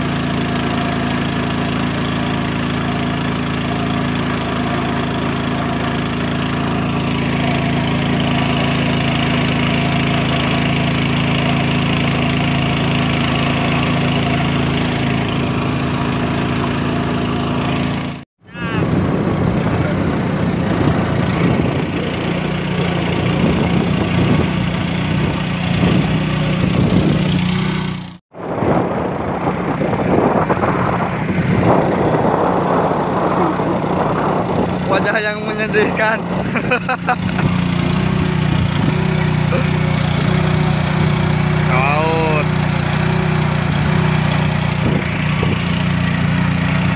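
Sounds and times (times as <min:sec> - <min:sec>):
motorboat engine running: 0:00.0 - 0:46.9.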